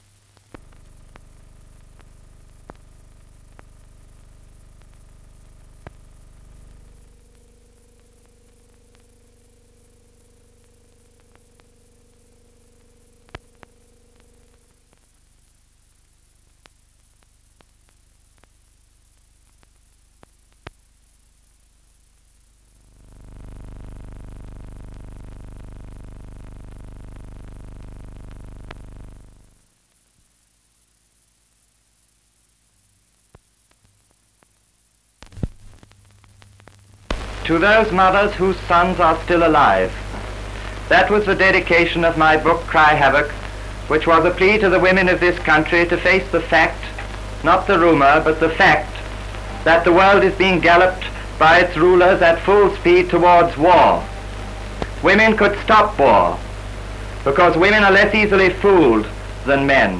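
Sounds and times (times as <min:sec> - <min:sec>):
record crackle clicks: 0:00.0 - 0:59.9.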